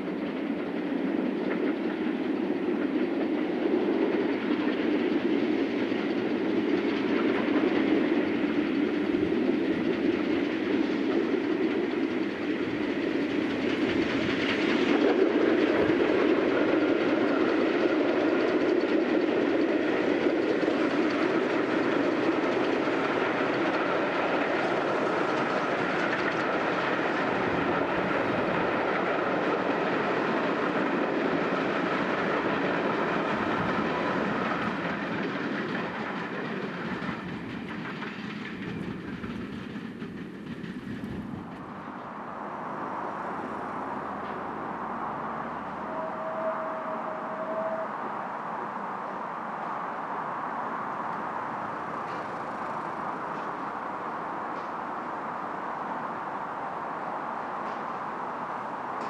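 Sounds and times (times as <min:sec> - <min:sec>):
wheels clattering on rails: 0:00.0 - 0:47.8, 0:50.9 - 0:59.0
steam locomotive passing: 0:00.0 - 0:59.0.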